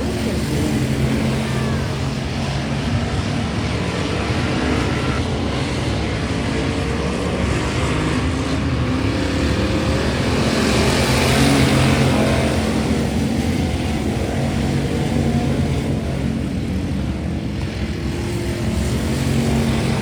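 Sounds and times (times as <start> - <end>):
race car engine at speed: 0.0 - 20.0.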